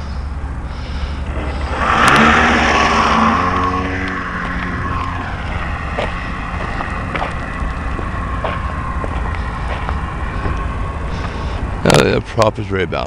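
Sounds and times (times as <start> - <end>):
electric motor and propeller running: 0.8 - 11.8.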